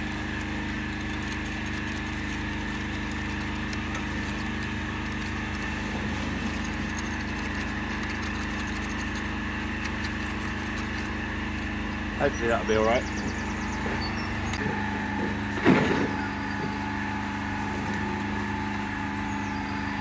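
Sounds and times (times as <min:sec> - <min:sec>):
petrol engine droning: 0:00.0 - 0:20.0.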